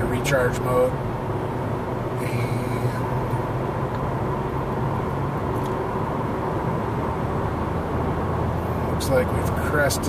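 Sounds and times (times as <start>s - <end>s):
car cabin road noise hum: 0.0s - 10.0s.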